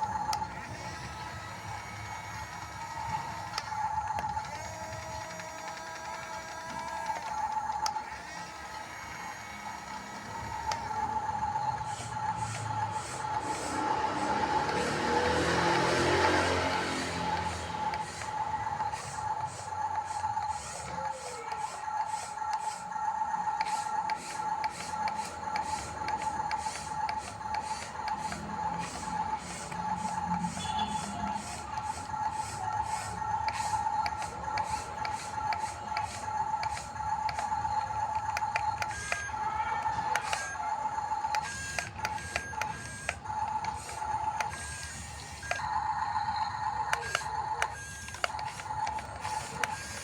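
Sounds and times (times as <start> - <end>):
electric motors and gearbox whining: 0.0 - 50.0
tracks clicking: 0.0 - 50.0.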